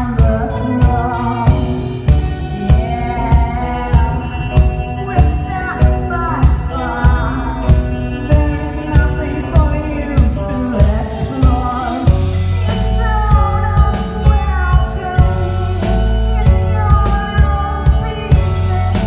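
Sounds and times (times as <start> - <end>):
heavy bass: 0.0 - 19.0
live rock band playing: 0.0 - 19.0
steady drum beat: 0.0 - 19.0.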